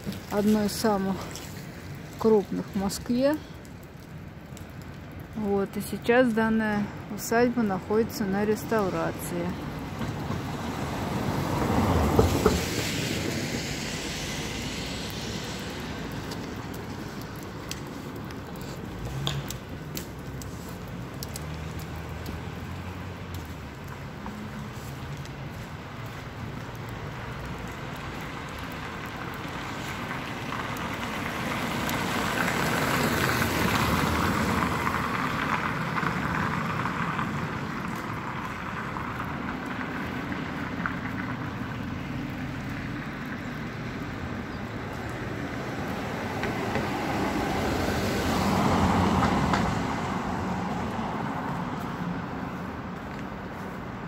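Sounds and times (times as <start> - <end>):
cars passing on wet street: 0.0 - 54.0
city traffic: 0.0 - 54.0.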